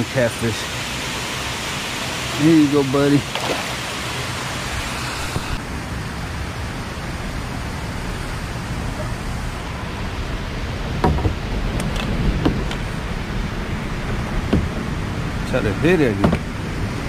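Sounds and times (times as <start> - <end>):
wind and water rushing: 0.0 - 17.0.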